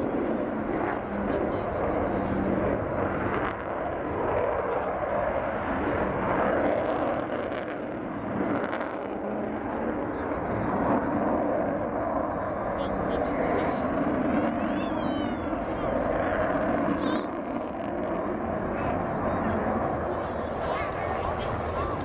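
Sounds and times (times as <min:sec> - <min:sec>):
distant jet noise: 0:00.0 - 0:22.0.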